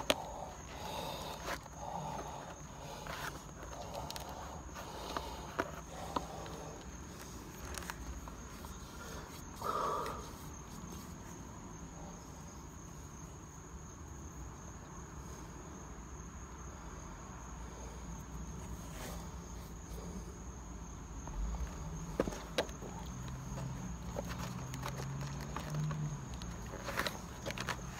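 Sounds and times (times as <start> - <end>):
insects trilling: 0.0 - 27.9.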